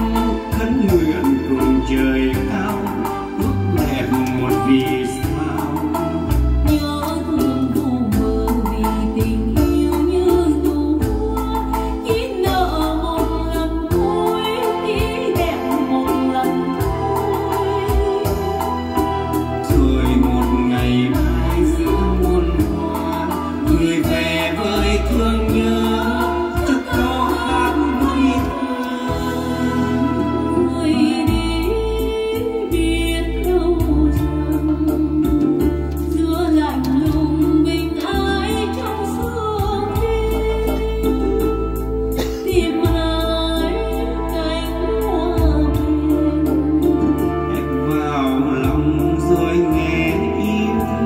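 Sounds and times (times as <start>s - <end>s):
instrumental backing with bass: 0.0s - 51.0s
person singing: 0.0s - 51.0s.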